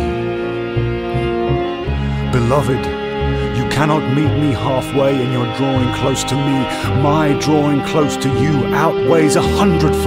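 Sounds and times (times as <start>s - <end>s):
slow piano and bass music: 0.0s - 10.0s.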